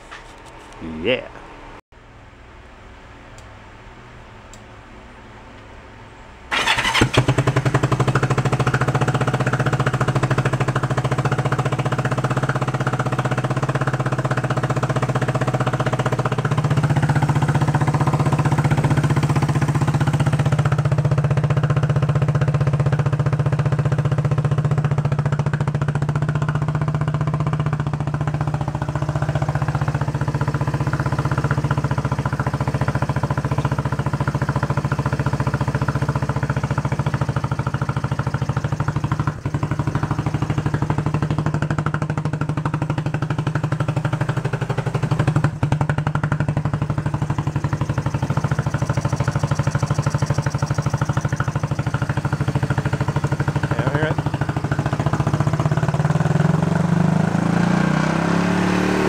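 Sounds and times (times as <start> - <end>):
motorcycle engine running: 6.5 - 59.0.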